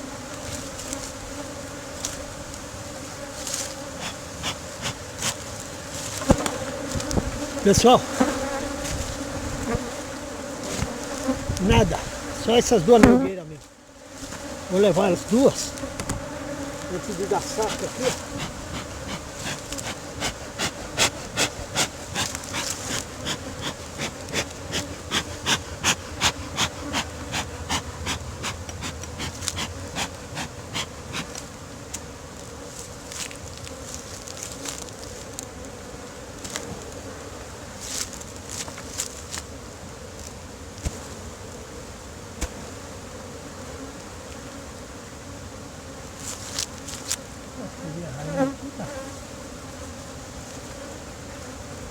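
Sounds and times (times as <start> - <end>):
honey bees buzzing: 0.0 - 51.9.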